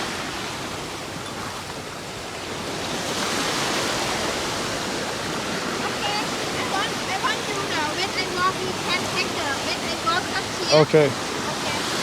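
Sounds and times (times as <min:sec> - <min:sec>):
surf washing over shore: 0:00.0 - 0:12.0.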